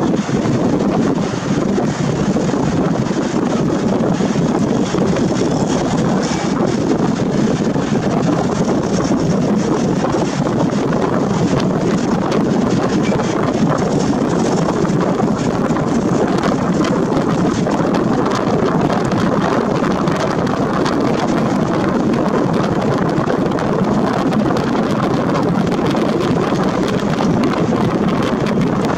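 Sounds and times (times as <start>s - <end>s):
wind on microphone: 0.0s - 28.9s.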